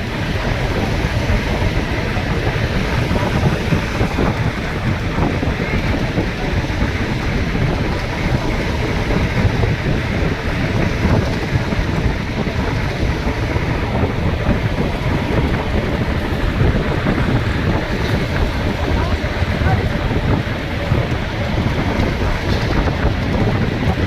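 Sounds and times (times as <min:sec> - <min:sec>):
road noise rumble: 0:00.0 - 0:24.0
wind buffeting microphone: 0:00.0 - 0:24.0.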